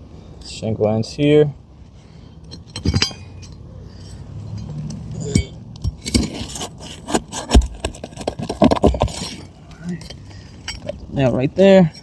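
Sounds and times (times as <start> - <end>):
metal tool clinking and scraping: 2.2 - 12.0.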